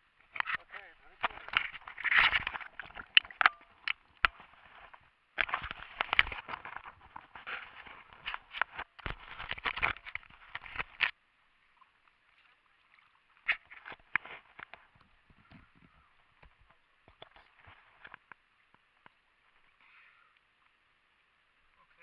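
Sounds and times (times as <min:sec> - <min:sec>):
water splashing: 0:00.0 - 0:22.0.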